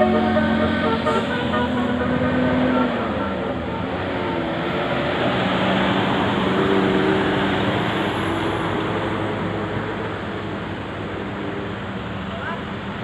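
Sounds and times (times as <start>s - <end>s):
heavy vehicle engine droning: 0.0s - 13.0s
tyres rumbling on road: 0.0s - 13.0s.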